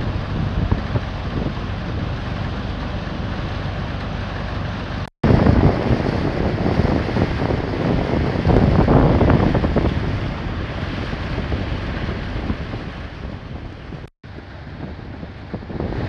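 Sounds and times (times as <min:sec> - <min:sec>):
marine diesel engine running: 0:00.0 - 0:16.0
wind buffeting microphone: 0:00.0 - 0:16.0.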